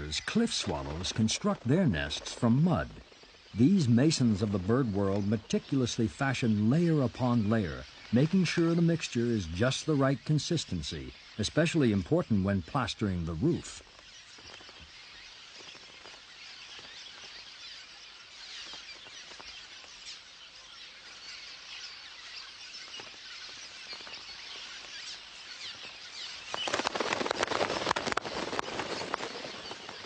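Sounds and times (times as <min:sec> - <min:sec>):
small birds twittering: 0:00.0 - 0:30.0.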